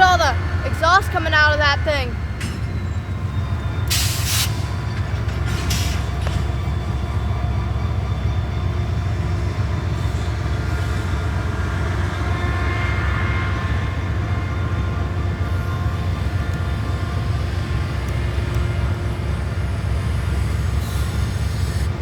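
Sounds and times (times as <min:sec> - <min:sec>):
faint whining tones: 0:00.0 - 0:22.0
locomotive engine idling: 0:00.0 - 0:22.0.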